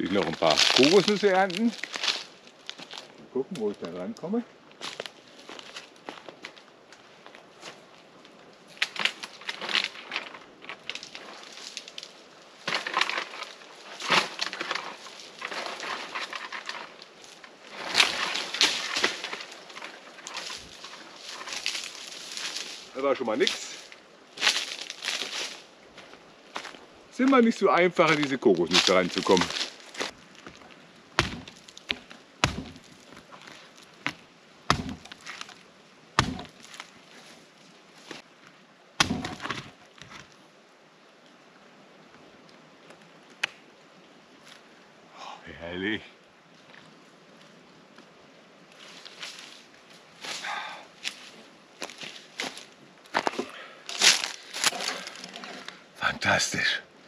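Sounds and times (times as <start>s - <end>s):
dry palm fronds crunching: 0.0s - 38.3s, 39.0s - 40.4s, 48.8s - 55.8s.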